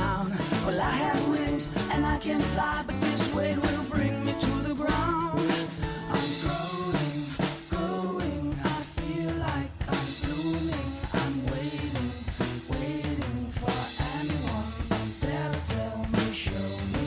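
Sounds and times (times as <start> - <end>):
music with drum beat: 0.0 - 17.0.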